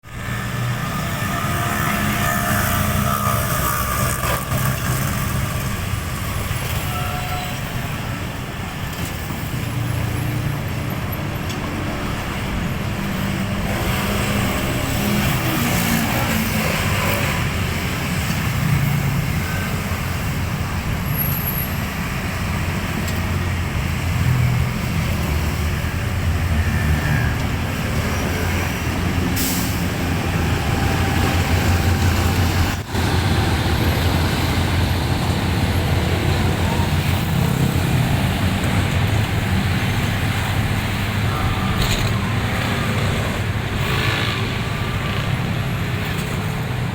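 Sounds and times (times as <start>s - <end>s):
diesel engine rumble: 0.0s - 46.9s
train rolling noise: 0.0s - 46.9s.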